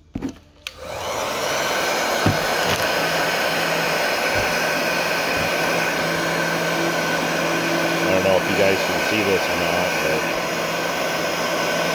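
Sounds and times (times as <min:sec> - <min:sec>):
heat gun fan humming: 0:00.6 - 0:11.9.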